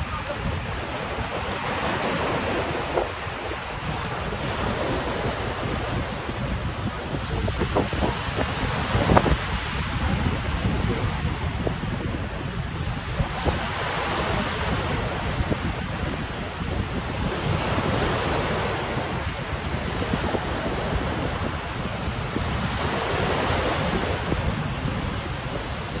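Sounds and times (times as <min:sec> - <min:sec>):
surf breaking ashore: 0:00.0 - 0:26.0
wind buffeting microphone: 0:00.0 - 0:26.0.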